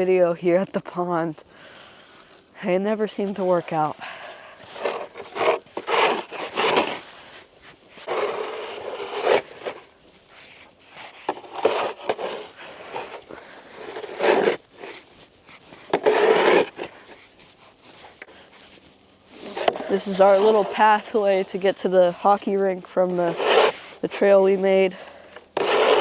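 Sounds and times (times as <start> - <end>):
crunching and scraping in snow: 1.8 - 26.0.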